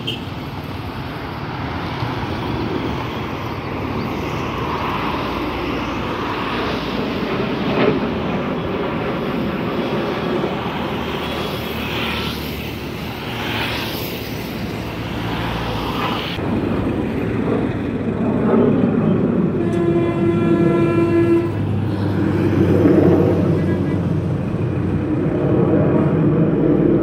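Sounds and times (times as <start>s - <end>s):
jets passing overhead: 0.0s - 27.0s.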